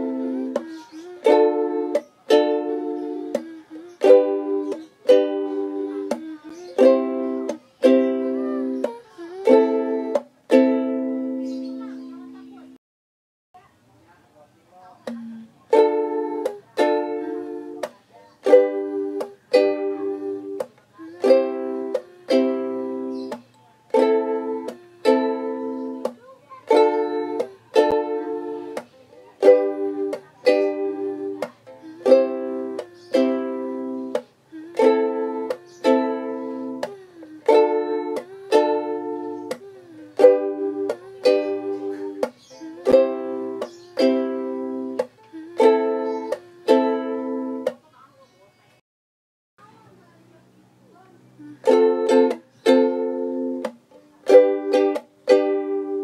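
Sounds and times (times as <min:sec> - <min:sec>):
ukulele strumming: 0:00.0 - 0:12.7, 0:15.0 - 0:47.8, 0:51.2 - 0:56.0.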